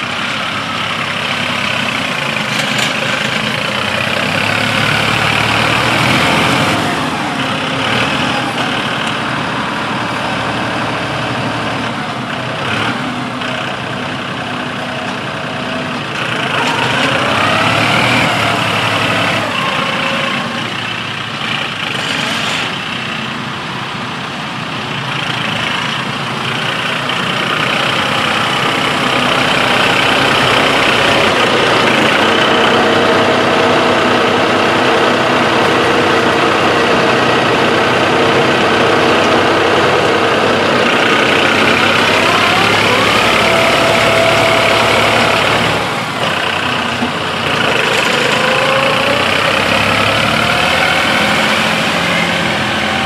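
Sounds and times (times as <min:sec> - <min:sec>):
loader pushing through soil: 0:00.0 - 0:53.0
tractor diesel engine: 0:00.0 - 0:53.0.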